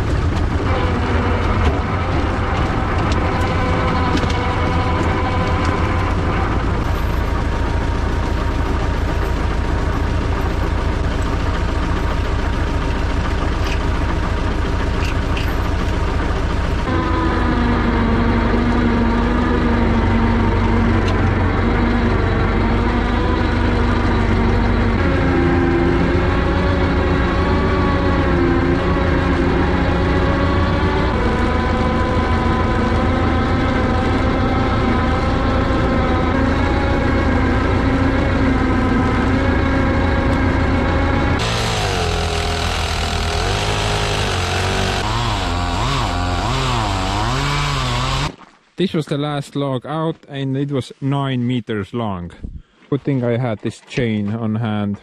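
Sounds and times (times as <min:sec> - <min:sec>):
tractor engine running under load: 0:00.0 - 0:48.4.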